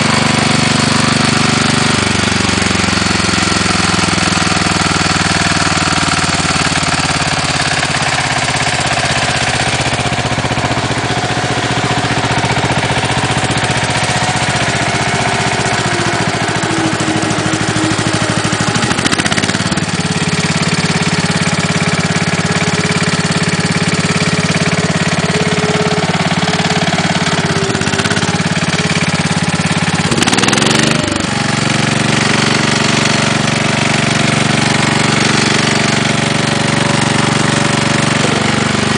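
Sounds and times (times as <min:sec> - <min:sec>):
garden tractor engine knocking: 0:00.0 - 0:38.9.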